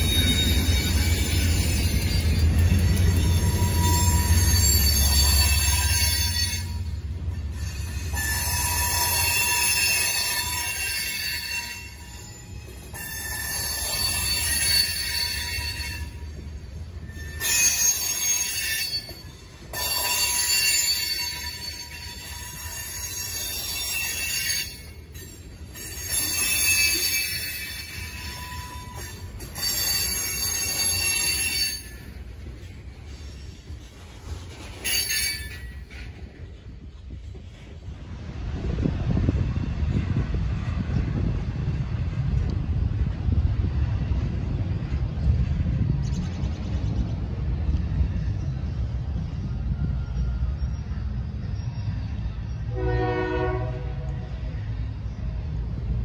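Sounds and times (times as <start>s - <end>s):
train wheels squealing: 0.0s - 37.9s, 44.2s - 56.0s
diesel locomotive engine rumble: 0.0s - 56.0s.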